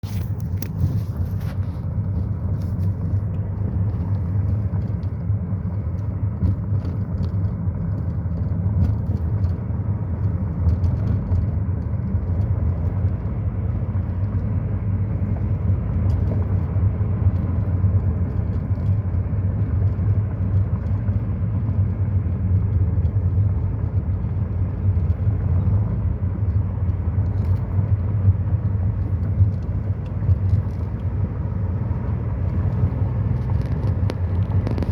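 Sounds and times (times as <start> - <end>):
car engine low rumble: 0.0 - 34.9.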